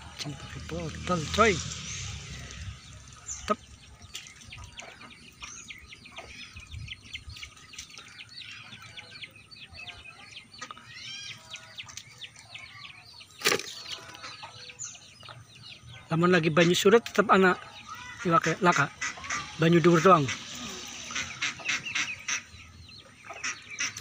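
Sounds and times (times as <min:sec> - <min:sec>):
small birds chirping chorus: 0:00.0 - 0:24.0.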